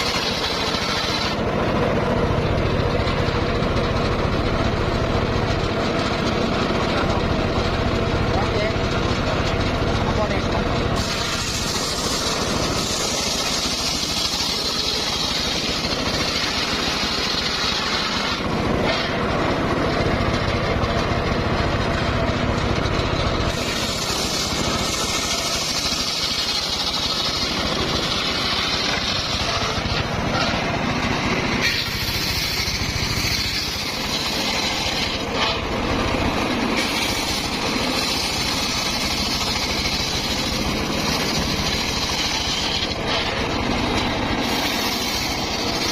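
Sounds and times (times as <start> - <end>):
circular sawmill cutting timber: 0.0 - 45.9.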